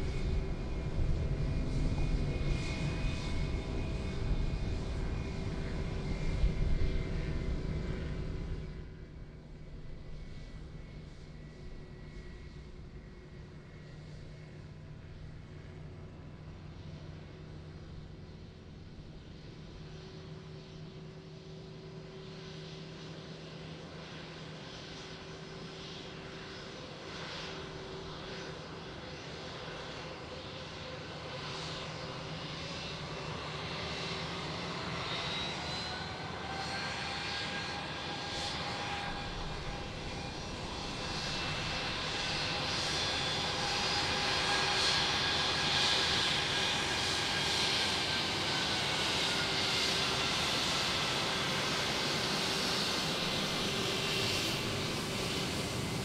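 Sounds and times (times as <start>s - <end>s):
jet airliner engines whining: 0.0s - 56.0s.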